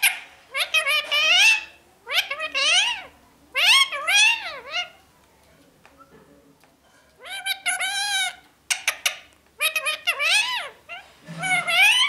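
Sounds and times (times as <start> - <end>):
parakeet high-pitched calls: 0.0 - 5.0, 7.2 - 12.0.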